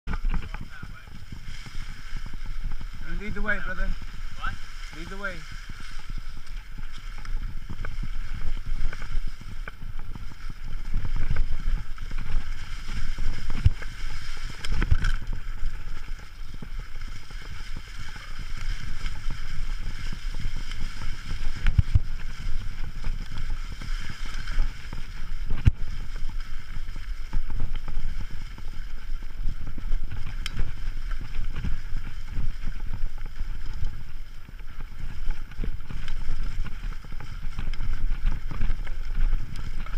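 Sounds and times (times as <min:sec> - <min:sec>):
bike tyres rumbling and rattling: 0:00.0 - 0:39.9
wind on microphone: 0:00.0 - 0:39.9.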